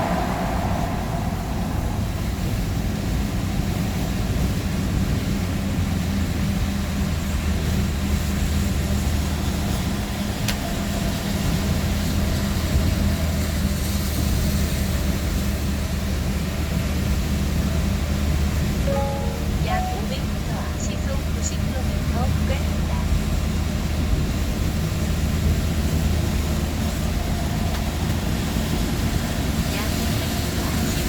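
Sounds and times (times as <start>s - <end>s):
vehicle engine and road noise: 0.0s - 18.8s, 20.5s - 31.0s.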